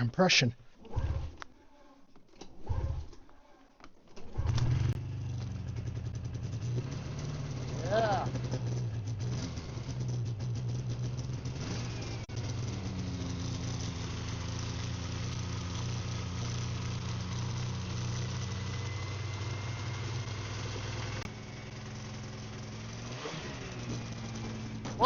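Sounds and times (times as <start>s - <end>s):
snowmobile engine idling: 4.8s - 25.0s.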